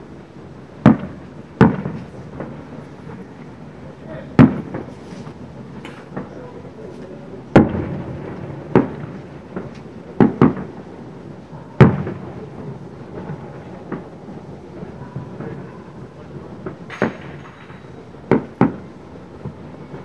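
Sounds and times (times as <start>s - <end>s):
firework shells booming: 0.1s - 20.0s
faint firework pops: 0.8s - 3.3s, 4.4s - 10.9s, 11.7s - 14.2s, 14.8s - 20.0s.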